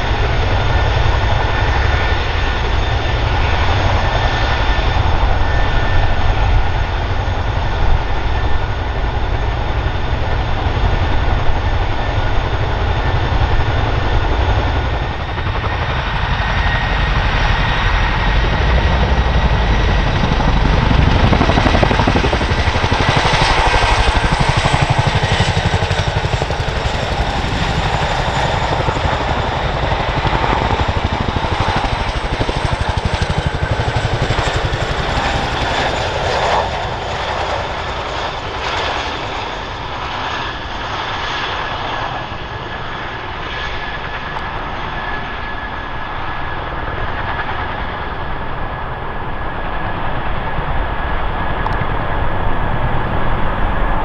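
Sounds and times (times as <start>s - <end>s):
helicopter rotors beating: 0.0s - 54.0s
high engine whine: 0.0s - 54.0s.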